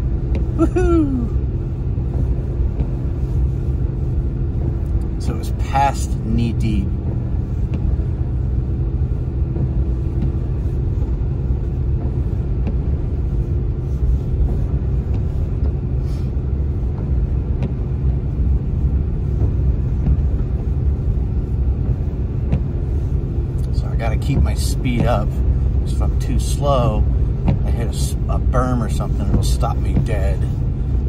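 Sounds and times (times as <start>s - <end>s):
car engine rumble: 0.0s - 31.0s
tyres pushing through snow: 0.0s - 31.0s.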